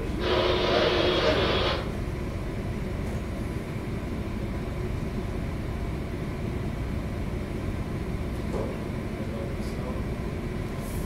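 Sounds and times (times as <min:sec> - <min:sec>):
ship engine low rumble: 0:00.0 - 0:11.0.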